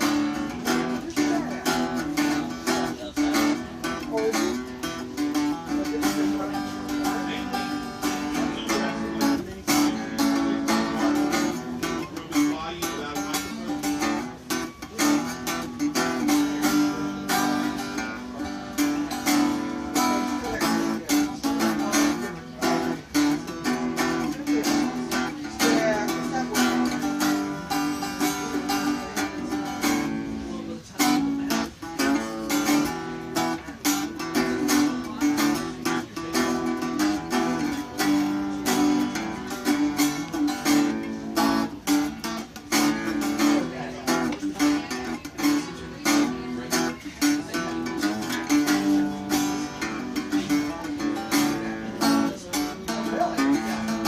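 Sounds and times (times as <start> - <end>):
guitar playing: 0.0 - 54.0.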